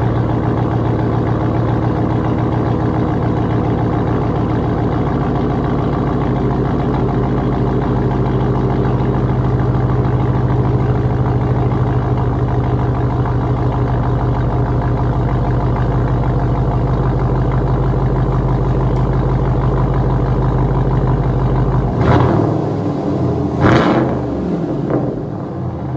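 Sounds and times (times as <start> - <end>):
loud engine idling: 0.0 - 25.9.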